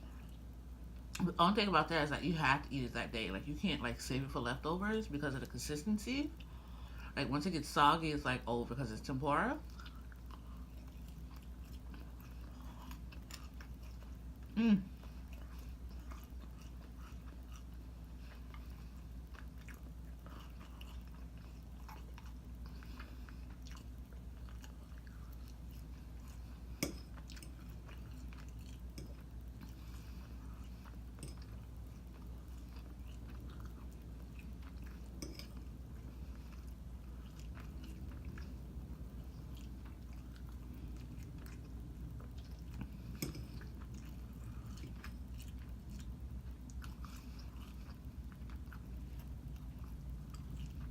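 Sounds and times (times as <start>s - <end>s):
steady low hum: 0.0s - 50.9s
person chewing food: 9.6s - 50.9s.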